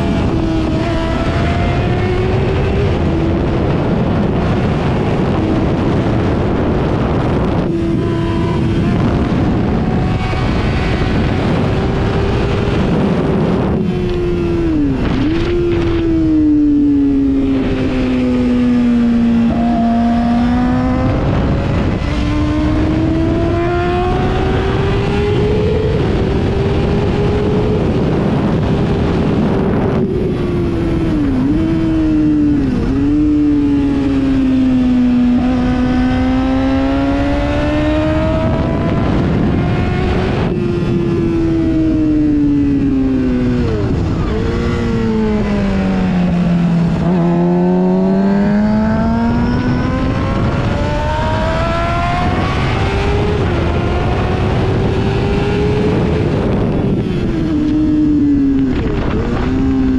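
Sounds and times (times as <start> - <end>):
motorbike engine revving: 0.0 - 59.9
wind rushing: 0.0 - 59.9.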